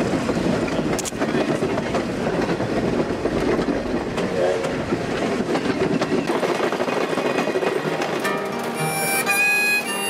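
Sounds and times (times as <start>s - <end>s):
wheels clicking over rails: 0.0s - 9.6s
train coaches rumbling: 0.0s - 10.0s.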